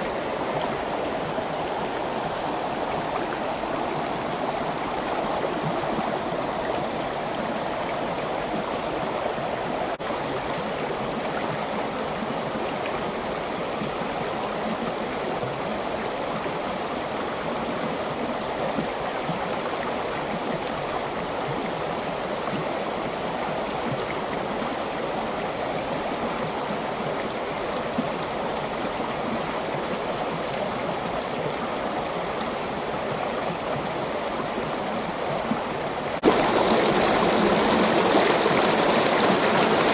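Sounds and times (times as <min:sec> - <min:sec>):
creek water gurgling over rocks: 0:00.0 - 0:39.9.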